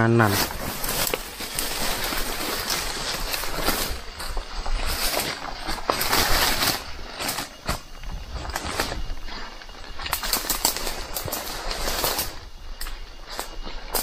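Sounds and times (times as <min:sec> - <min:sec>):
rustling through vegetation: 0:00.0 - 0:14.0
footsteps crunching on trail: 0:00.4 - 0:14.0.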